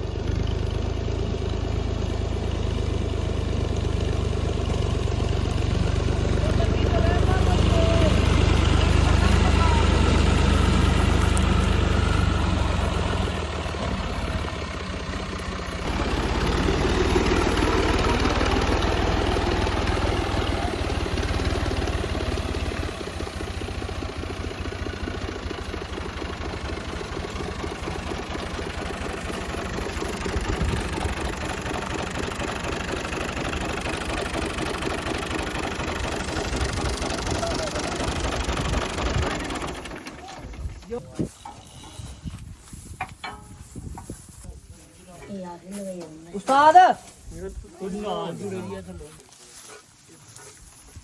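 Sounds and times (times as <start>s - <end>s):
combine harvester engine throbbing: 0.0s - 44.3s.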